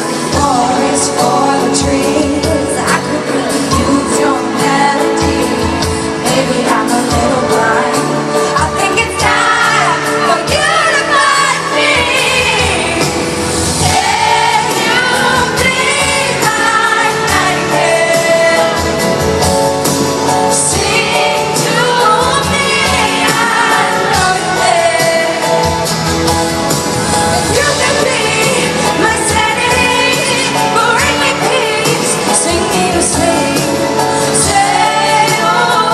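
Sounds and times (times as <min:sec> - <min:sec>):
woman singing: 0:00.0 - 0:19.3, 0:20.5 - 0:25.8, 0:27.4 - 0:35.9
live band playing: 0:00.0 - 0:35.9.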